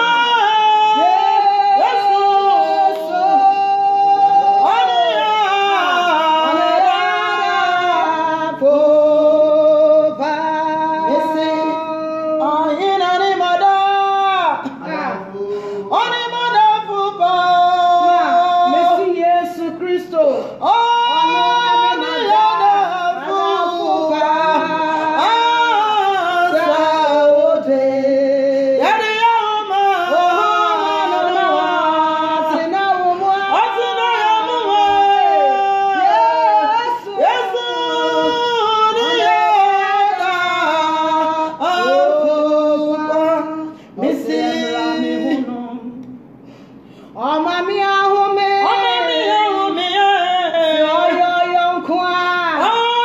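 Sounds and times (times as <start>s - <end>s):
women singing a worship song: 0.0s - 53.0s.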